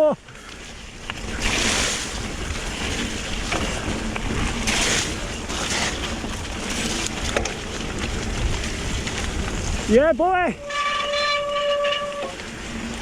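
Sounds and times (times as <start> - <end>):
bike tyre noise: 0.0 - 13.0
wind rumble on microphone: 0.6 - 13.0.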